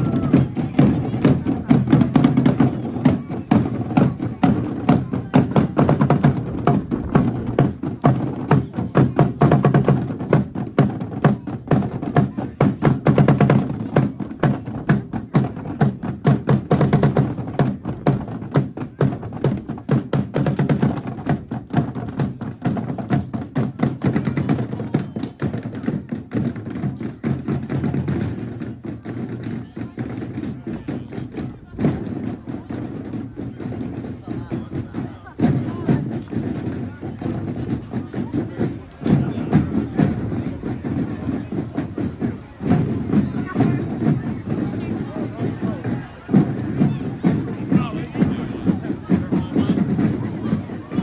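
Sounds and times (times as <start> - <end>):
rapid drum and percussion strikes: 0.0 - 51.0.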